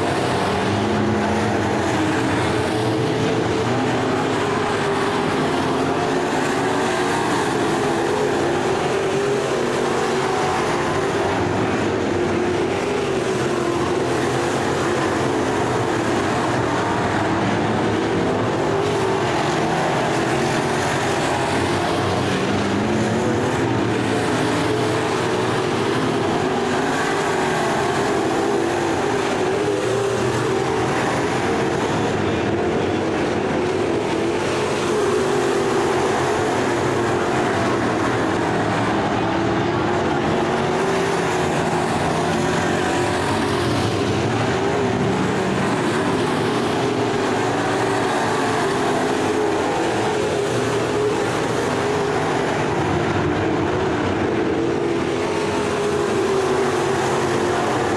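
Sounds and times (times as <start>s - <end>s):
race car engines: 0.0s - 57.9s.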